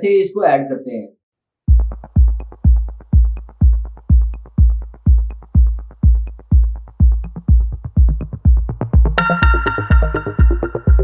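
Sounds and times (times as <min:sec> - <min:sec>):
electronic background music: 0:01.7 - 0:11.0.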